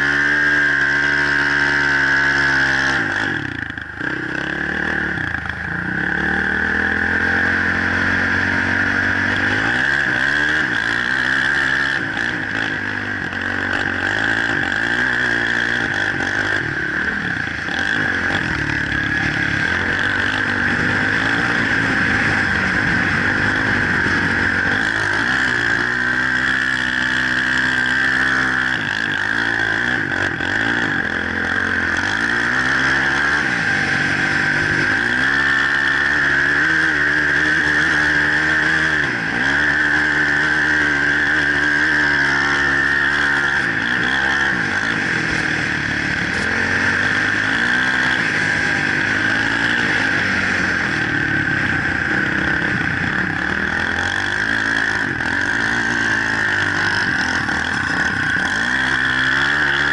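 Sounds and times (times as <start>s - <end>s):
off-road vehicle engine revving: 0.0s - 59.9s
steady high whine: 0.0s - 59.9s.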